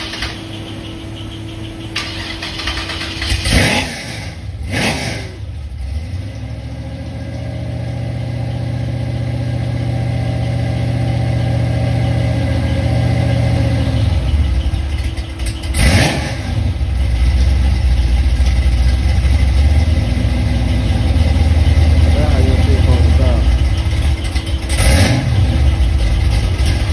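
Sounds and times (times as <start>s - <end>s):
car engine deep drone: 0.0s - 26.9s.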